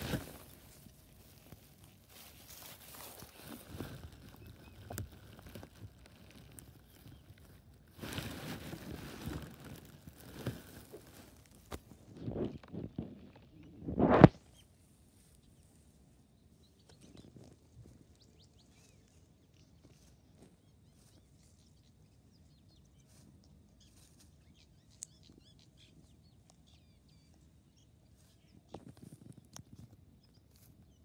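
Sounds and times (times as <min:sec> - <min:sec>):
hens pecking and scratching: 0:00.0 - 0:31.0.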